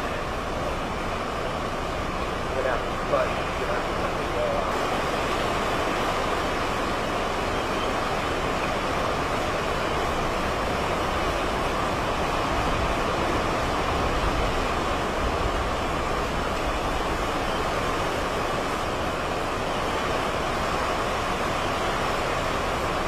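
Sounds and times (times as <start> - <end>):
strong wind buffeting microphone: 0.0 - 23.0.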